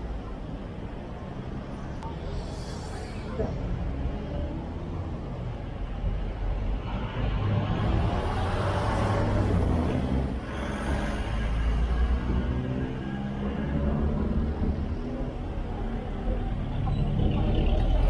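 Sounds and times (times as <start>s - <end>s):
passing cars rumble and road noise: 0.0s - 18.0s.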